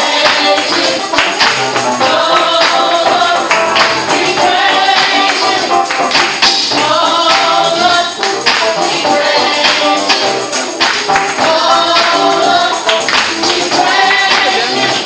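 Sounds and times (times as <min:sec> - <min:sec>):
choir singing gospel song: 0:00.0 - 0:15.0
tambourine shaken and struck: 0:00.0 - 0:15.0.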